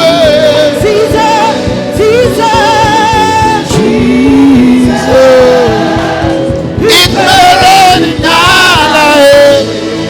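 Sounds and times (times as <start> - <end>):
band playing: 0.0 - 10.0
voices singing: 0.0 - 10.0.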